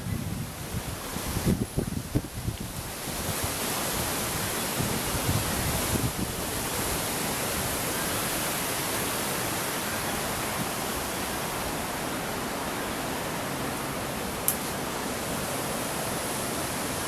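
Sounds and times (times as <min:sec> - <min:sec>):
wind buffeting microphone: 0:00.0 - 0:14.4
strong wind hissing: 0:00.0 - 0:17.0.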